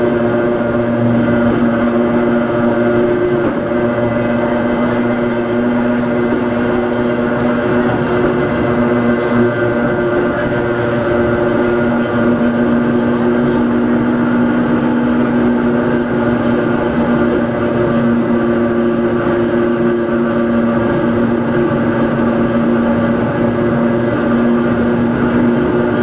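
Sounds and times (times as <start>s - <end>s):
electric railcar motor whine: 0.0s - 26.0s
wheels rumbling on track: 0.0s - 26.0s.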